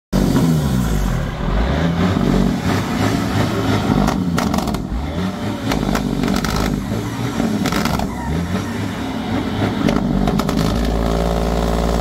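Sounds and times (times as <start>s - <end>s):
diesel truck engine revving: 0.1s - 12.0s.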